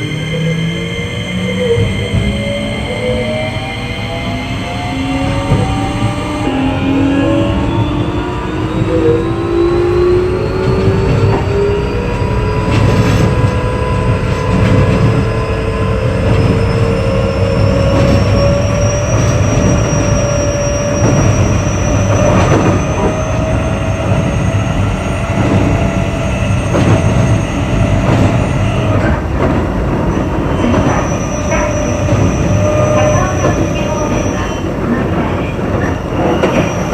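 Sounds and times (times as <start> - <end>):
electric train motors whining: 0.0 - 36.9
wheel and rail rumble: 0.0 - 36.9.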